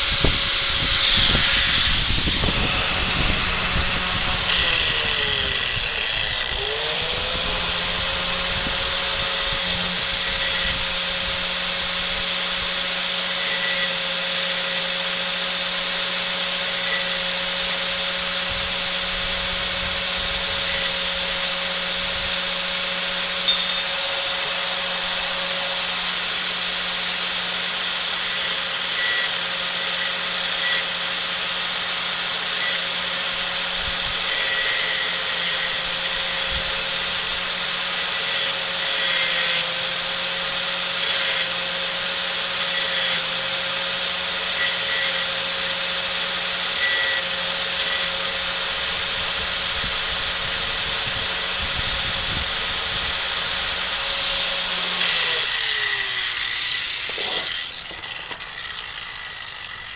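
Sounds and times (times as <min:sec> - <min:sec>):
angle grinder motor whine: 0:00.0 - 0:59.9
steel grinding rasp: 0:00.0 - 0:59.9.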